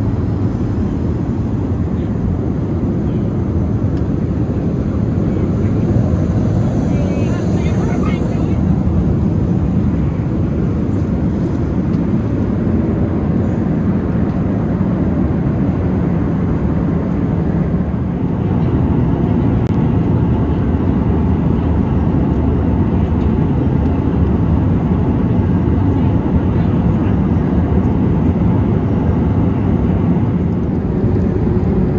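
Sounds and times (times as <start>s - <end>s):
airplane cabin engine rush: 0.0s - 31.9s.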